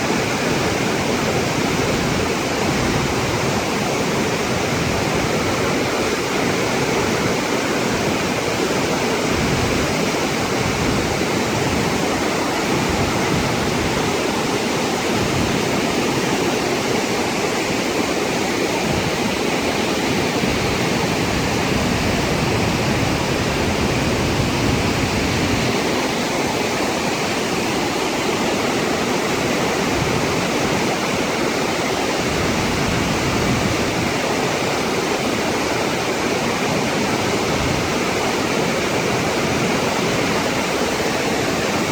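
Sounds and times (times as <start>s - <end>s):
water rushing down waterfall: 0.0s - 41.9s.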